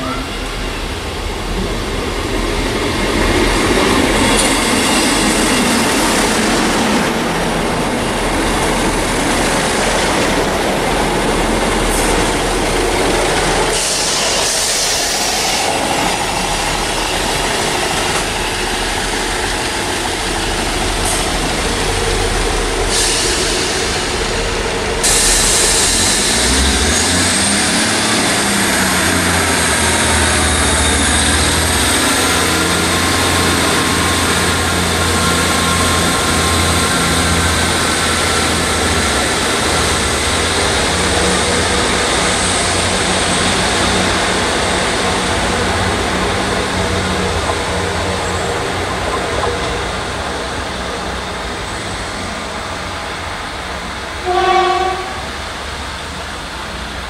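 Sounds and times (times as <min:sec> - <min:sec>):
train wheels rushing on rails: 0:00.0 - 0:57.0.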